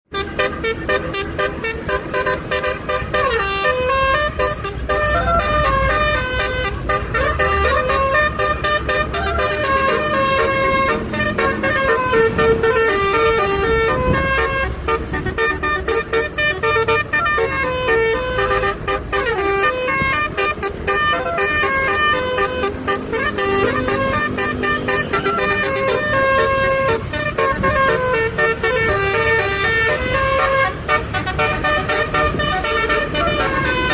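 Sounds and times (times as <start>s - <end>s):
multi-tone truck horn melody: 0.1s - 33.9s.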